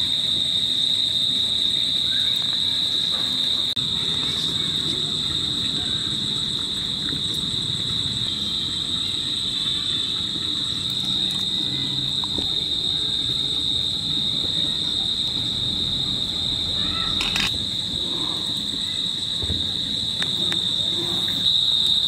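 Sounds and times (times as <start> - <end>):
insects droning: 0.0 - 22.0
low background rumble: 3.7 - 22.0.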